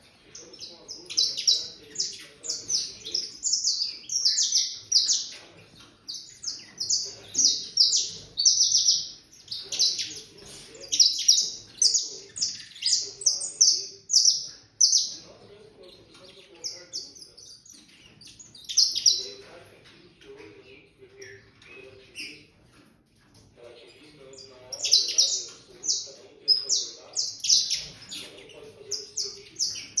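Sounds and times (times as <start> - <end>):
finch singing high chirps: 0.0 - 19.4, 23.9 - 30.0.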